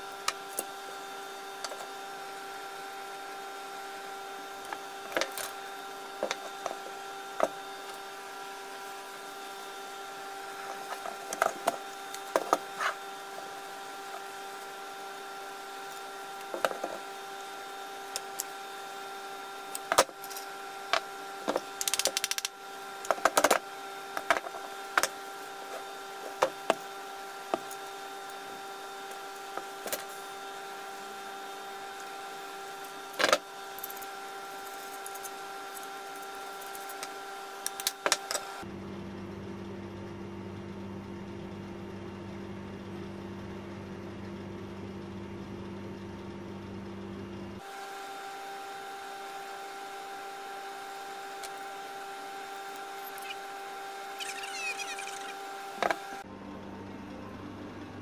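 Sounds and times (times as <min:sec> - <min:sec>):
steady hum: 0:00.0 - 0:39.3, 0:48.0 - 0:58.0.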